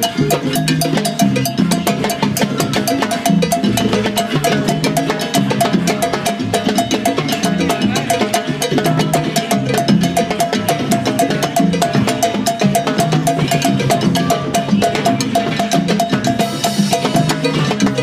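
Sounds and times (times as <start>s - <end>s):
timbales and cowbells rhythm: 0.0s - 18.0s.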